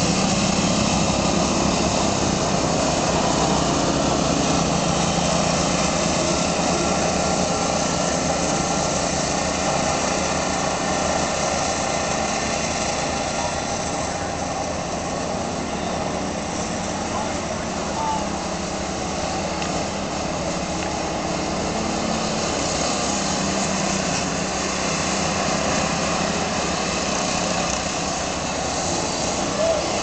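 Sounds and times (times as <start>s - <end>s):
go-kart engines buzzing: 0.0s - 30.0s.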